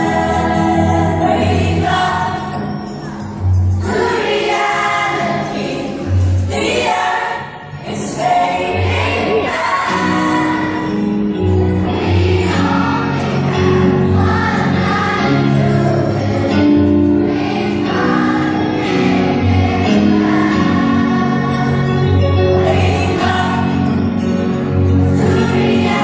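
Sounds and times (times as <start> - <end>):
children's choir singing: 0.0 - 26.0.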